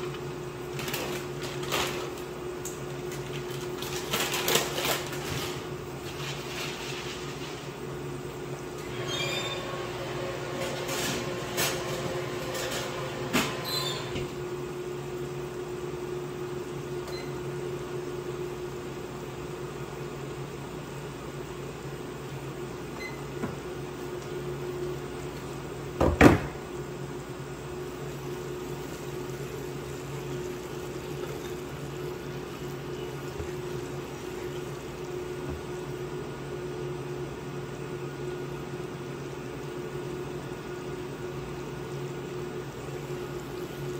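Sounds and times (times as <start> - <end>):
electric cooktop humming: 0.0 - 43.9.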